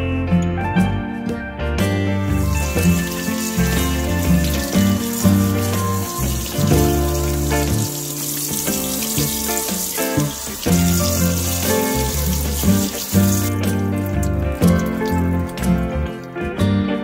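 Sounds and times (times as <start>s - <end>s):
background music: 0.0s - 17.0s
tap running into metal sink: 2.2s - 16.5s.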